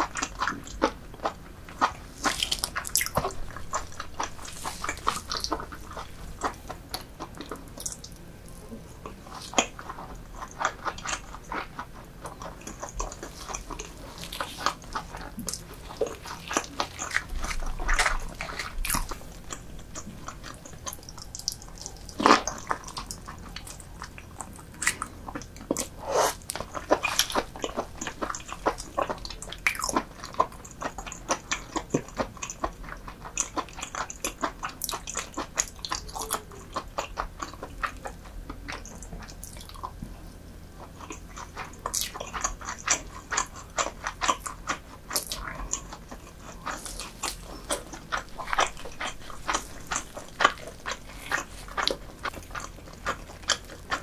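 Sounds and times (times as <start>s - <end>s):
person chewing wet food: 0.0s - 54.0s.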